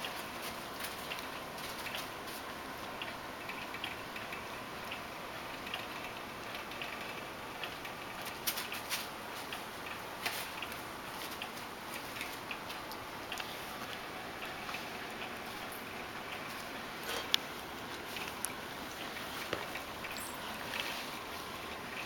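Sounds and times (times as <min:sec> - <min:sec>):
puppies clicking and tapping: 0:00.0 - 0:22.0.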